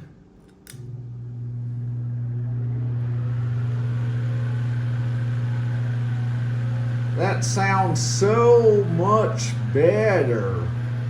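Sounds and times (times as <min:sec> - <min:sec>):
electric fan motor humming: 0:00.0 - 0:11.0.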